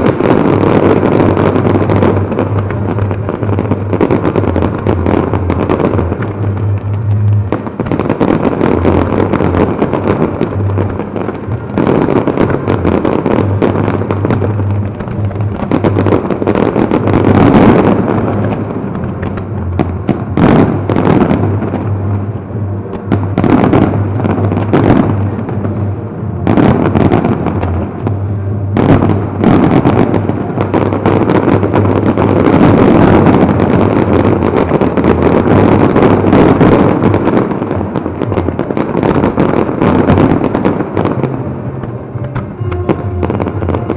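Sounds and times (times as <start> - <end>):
fireworks bangs: 0.0 - 43.9
fireworks crackling and rumbling: 0.0 - 43.9.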